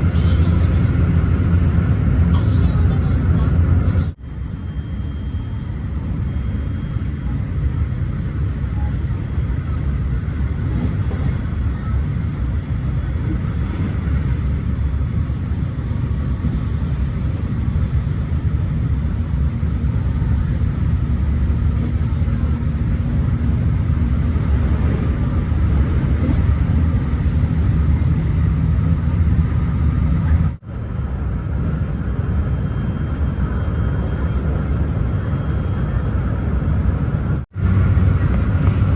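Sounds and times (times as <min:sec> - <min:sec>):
electric train rumbling: 0:00.0 - 0:04.6, 0:05.2 - 0:38.9.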